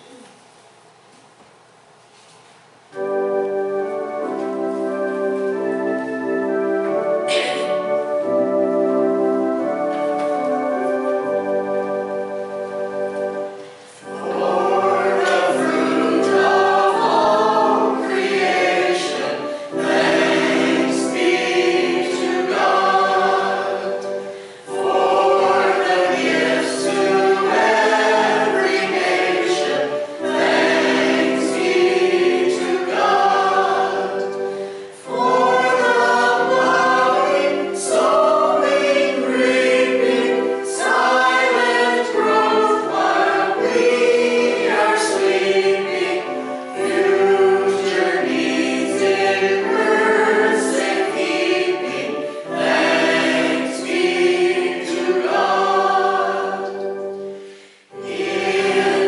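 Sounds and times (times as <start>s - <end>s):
church choir singing a hymn: 3.0s - 59.0s.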